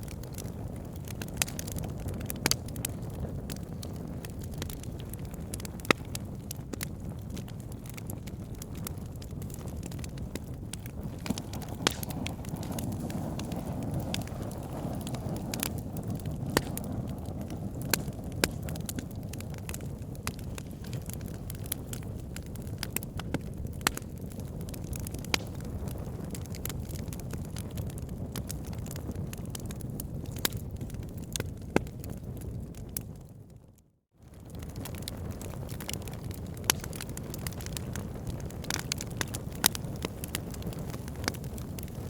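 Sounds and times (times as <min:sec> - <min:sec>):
logs crackling and popping: 0:00.0 - 0:33.5, 0:34.2 - 0:42.0
low rushing of flames: 0:00.0 - 0:33.6, 0:34.2 - 0:42.0.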